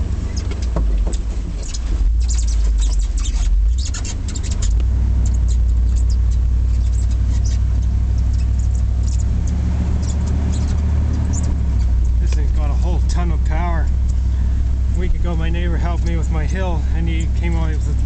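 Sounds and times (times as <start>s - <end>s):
pickup truck engine drone: 0.0s - 18.0s
small clicks and crackles: 0.2s - 17.9s.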